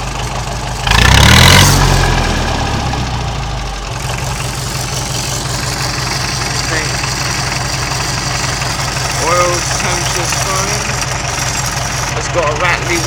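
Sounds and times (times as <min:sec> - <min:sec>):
diesel engine idling and revving: 0:00.0 - 0:13.0.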